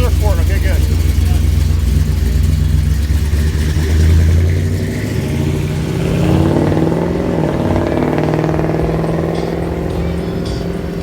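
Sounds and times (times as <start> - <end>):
deep car engine passing: 0.0 - 11.0
higher car engine passing: 0.0 - 11.0.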